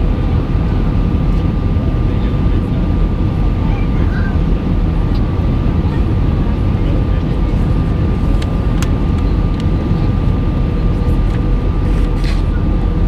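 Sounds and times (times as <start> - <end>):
airliner engine rumble: 0.0 - 13.0.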